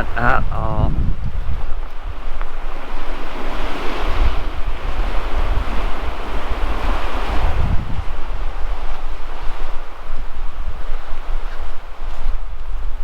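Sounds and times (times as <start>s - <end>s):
waves breaking on shore: 0.0s - 13.0s
wind buffeting microphone: 0.0s - 13.0s.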